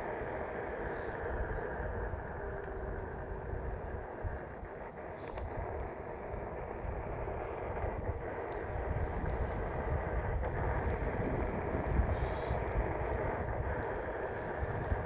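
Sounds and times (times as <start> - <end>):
tyre rolling on asphalt: 0.0 - 15.0.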